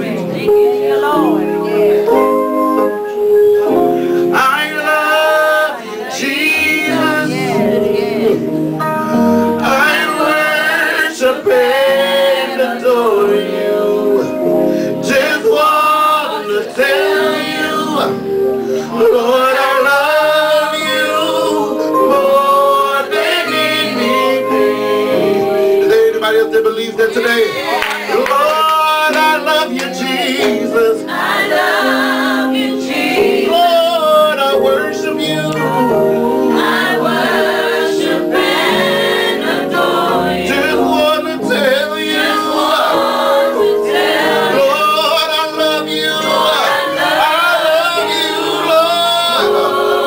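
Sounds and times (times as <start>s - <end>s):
instrumental accompaniment: 0.0s - 50.0s
voices singing gospel song: 0.0s - 50.0s.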